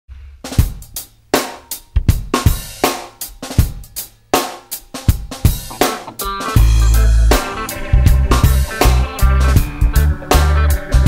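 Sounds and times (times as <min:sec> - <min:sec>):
drum kit playing: 0:00.1 - 0:11.0.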